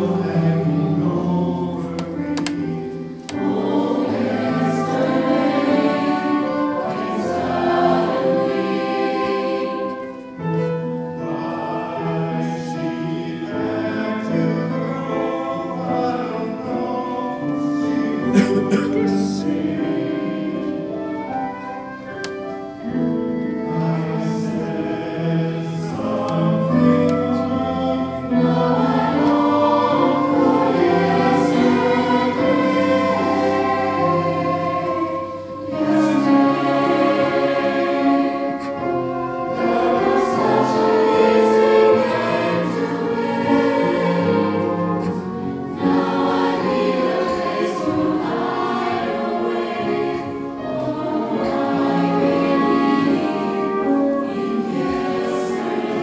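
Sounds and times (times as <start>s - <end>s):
mixed choir singing in harmony: 0.0s - 56.0s.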